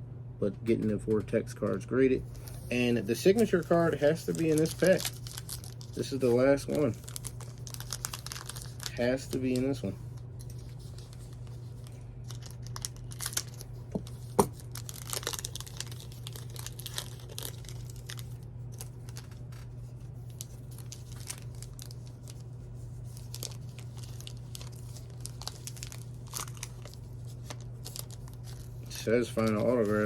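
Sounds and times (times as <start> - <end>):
steady low hum: 0.0 - 30.0
wrapper tearing and crinkling: 2.3 - 30.0.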